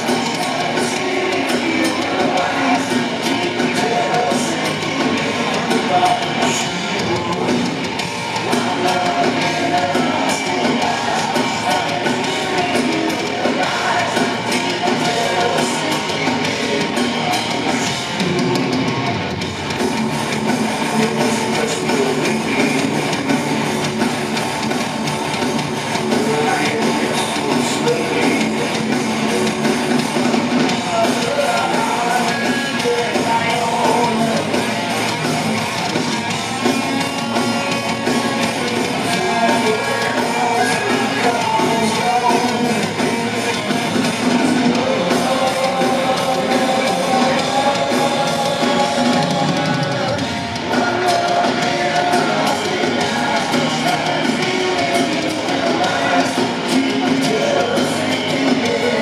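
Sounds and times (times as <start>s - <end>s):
metal band playing live: 0.0s - 59.0s.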